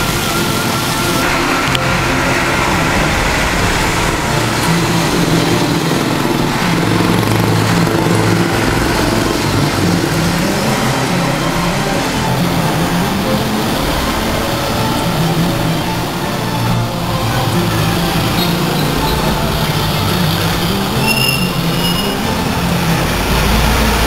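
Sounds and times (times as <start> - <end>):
small motorcycle engines: 0.0 - 24.0.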